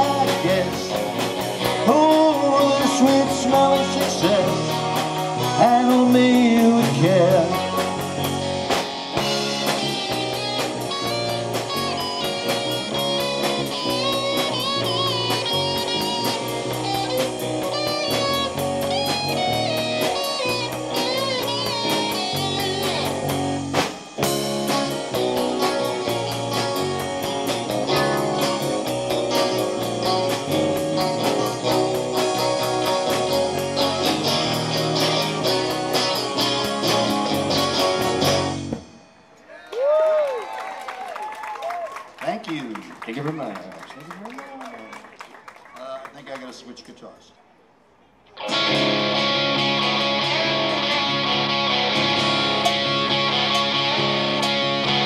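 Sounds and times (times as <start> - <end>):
electric guitar solo: 0.0 - 38.9, 48.3 - 55.0
rock band playing: 0.0 - 39.5, 48.3 - 55.0.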